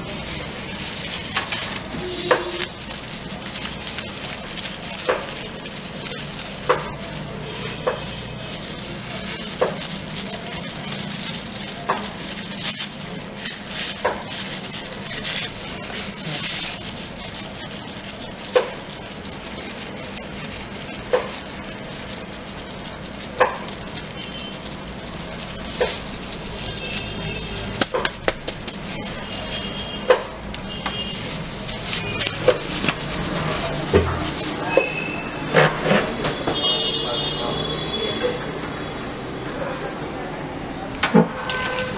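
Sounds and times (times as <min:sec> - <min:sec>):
cheese grating scraping hiss: 0:00.0 - 0:35.3.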